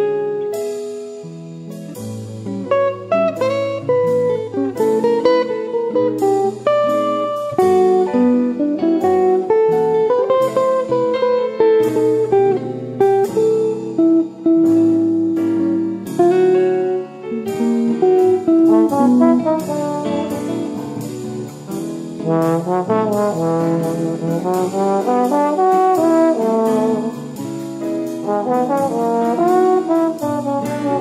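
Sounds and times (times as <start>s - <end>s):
instrumental background music: 0.0s - 31.0s.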